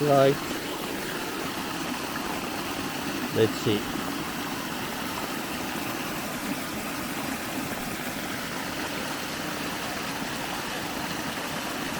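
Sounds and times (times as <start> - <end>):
water rushing down a creek: 0.0 - 11.9.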